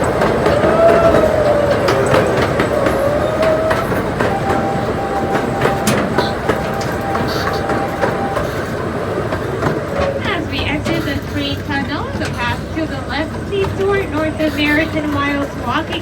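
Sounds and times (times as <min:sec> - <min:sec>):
train wheels clattering on track: 0:00.0 - 0:16.0.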